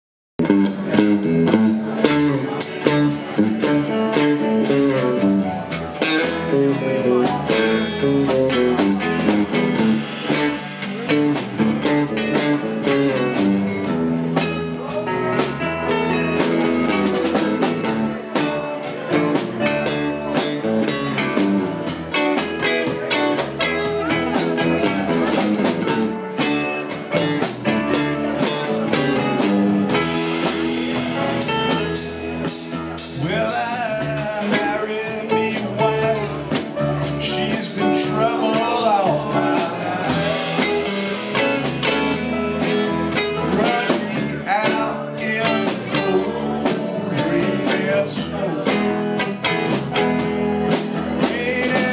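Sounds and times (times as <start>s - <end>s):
drum kit: 0.4s - 51.9s
electric guitars: 0.4s - 51.9s
keyboard: 0.4s - 51.9s.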